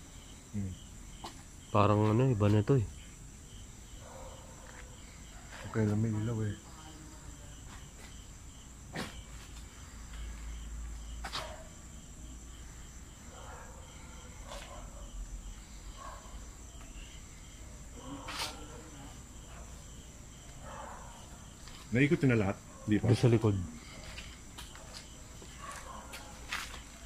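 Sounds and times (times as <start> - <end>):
crickets trilling: 0.0 - 27.0.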